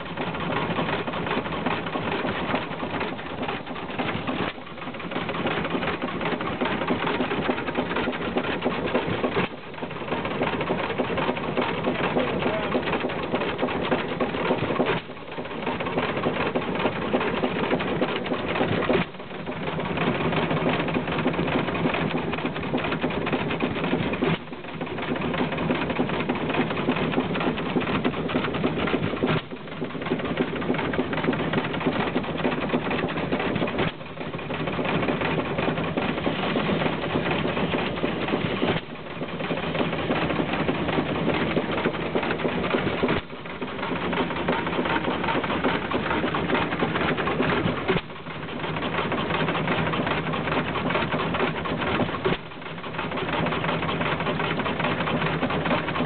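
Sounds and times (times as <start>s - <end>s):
stationary engine clattering: 0.0s - 56.0s.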